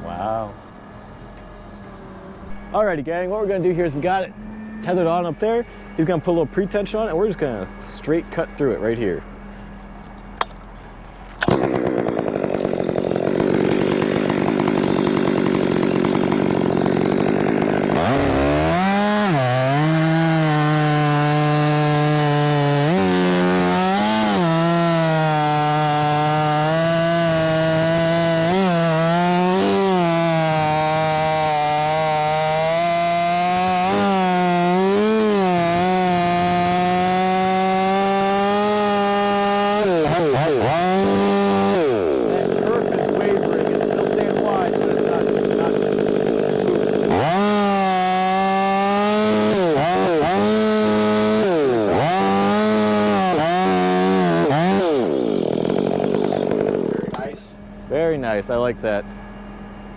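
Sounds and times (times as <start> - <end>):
chainsaw motor whine: 0.0 - 59.9.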